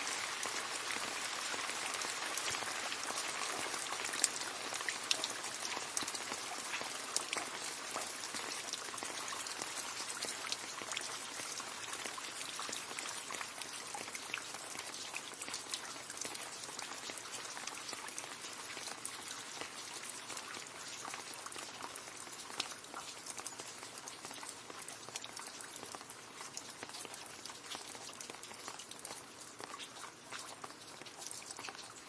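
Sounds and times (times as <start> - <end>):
rain splashing into a puddle: 0.0 - 32.0.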